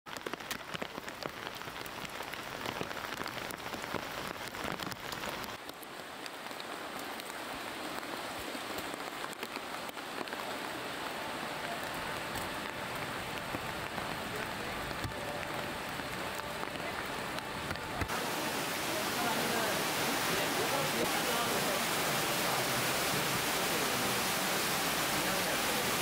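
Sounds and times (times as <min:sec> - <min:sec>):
heavy rain falling: 0:00.1 - 0:26.0.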